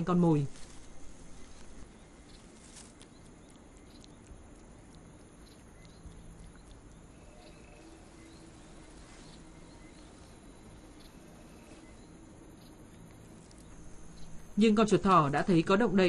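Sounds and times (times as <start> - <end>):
clicks and rustles in undergrowth: 0.0 - 14.6
low background ambience: 0.0 - 16.0.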